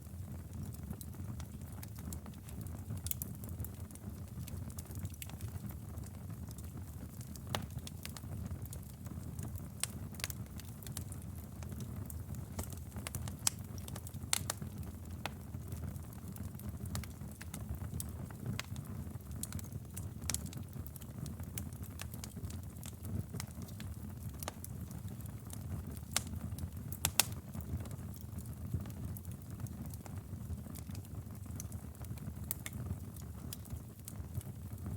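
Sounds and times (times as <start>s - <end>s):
wood fire crackling: 0.0s - 34.9s
fire pops and snaps: 0.2s - 34.9s.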